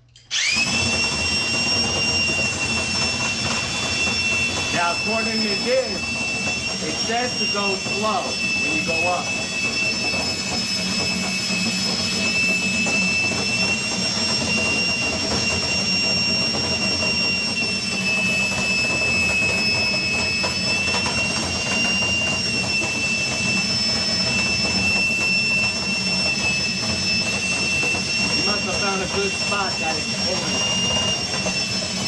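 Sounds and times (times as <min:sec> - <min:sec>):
power drill motor whine: 0:00.0 - 0:32.0.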